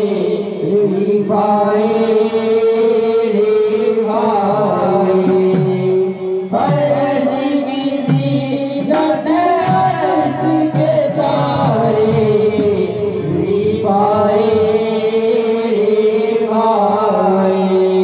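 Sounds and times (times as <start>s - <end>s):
person singing devotional song: 0.0s - 18.0s.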